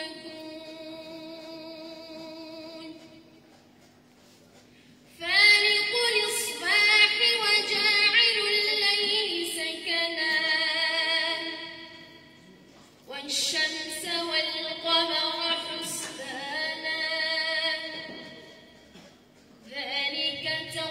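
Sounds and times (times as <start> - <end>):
woman reciting with ornamented notes: 0.0 - 3.3, 5.1 - 18.8, 19.6 - 20.9.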